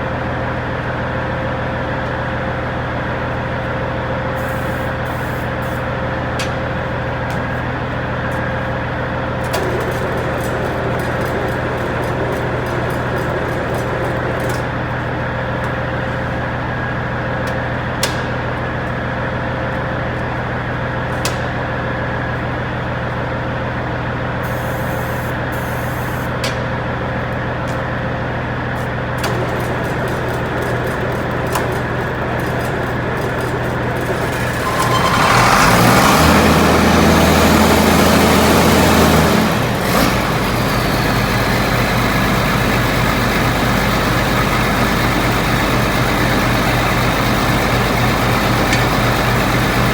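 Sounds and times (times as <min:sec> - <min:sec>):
tractor diesel engine idling: 0:00.0 - 0:49.9.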